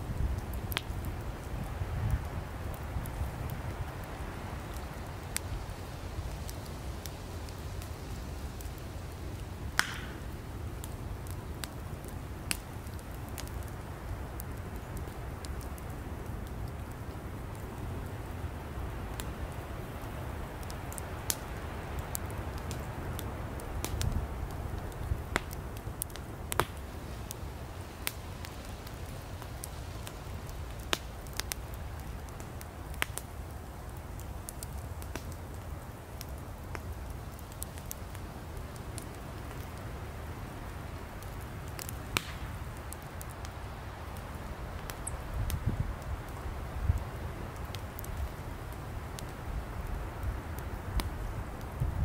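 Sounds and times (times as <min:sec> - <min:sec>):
campfire flames rumbling: 0:00.0 - 0:52.0
firewood crackling and popping: 0:00.0 - 0:52.0.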